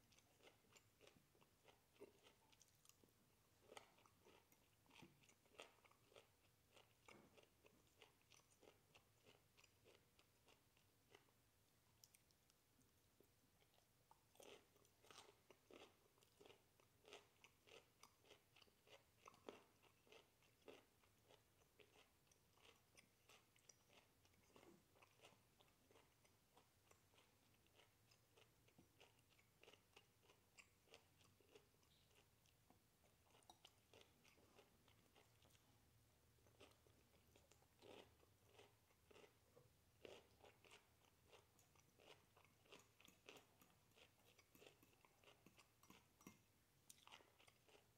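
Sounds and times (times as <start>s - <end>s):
chewing and crunching: 0.0s - 47.9s.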